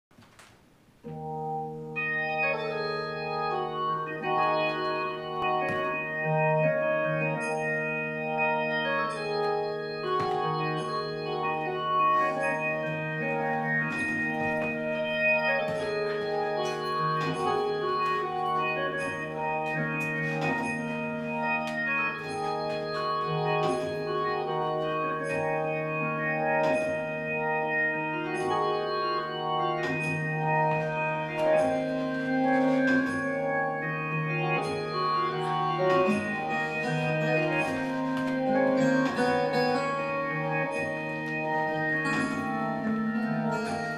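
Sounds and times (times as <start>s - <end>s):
slow organ music: 0.4s - 43.9s.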